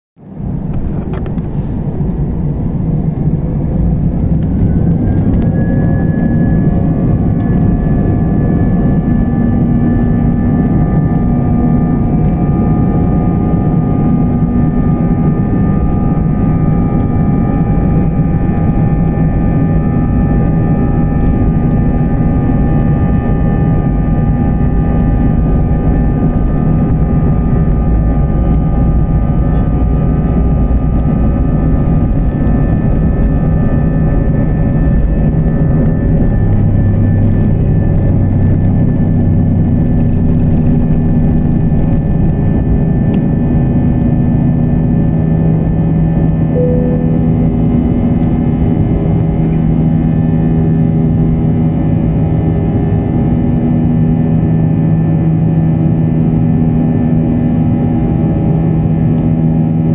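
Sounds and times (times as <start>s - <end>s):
deep rumble: 0.2s - 59.9s
jet engines spooling up: 0.4s - 51.8s.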